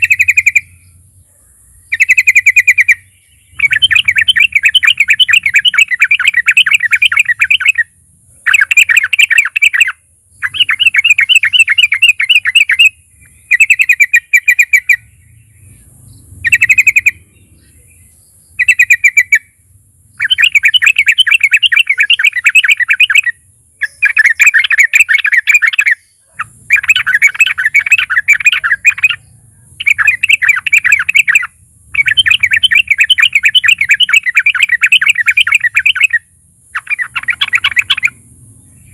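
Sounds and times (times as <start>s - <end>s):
bird singing bubbling chatter: 0.0s - 38.9s.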